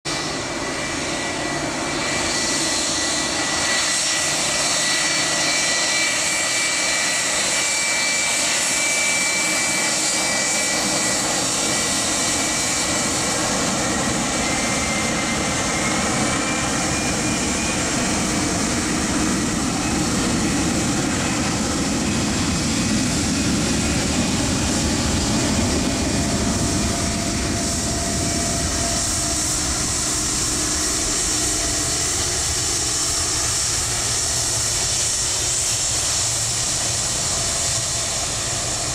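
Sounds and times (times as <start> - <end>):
jet engines at taxi power: 0.1 - 38.9.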